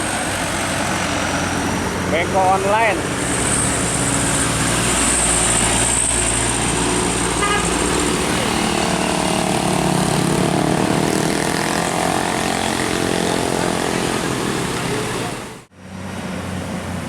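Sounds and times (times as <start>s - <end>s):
large bus engine running: 0.0s - 17.0s.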